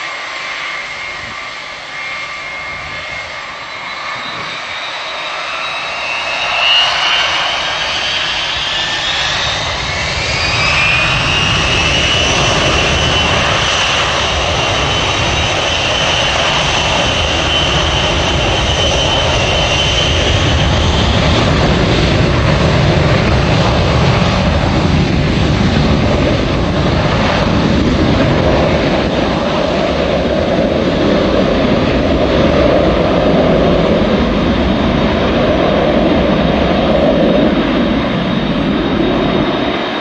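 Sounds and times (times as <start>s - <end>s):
jet engines spooling up: 0.0s - 40.0s
deep rumble: 0.1s - 40.0s.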